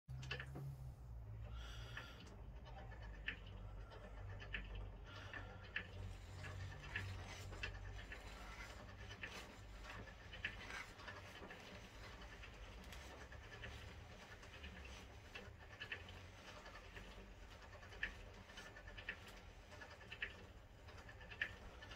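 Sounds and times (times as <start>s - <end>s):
blind mechanism clicking: 0.1s - 21.9s.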